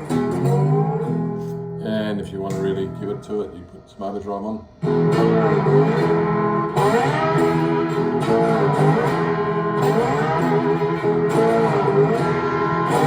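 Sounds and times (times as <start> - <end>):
overdriven electric guitar strumming: 0.0 - 3.9, 4.6 - 13.0.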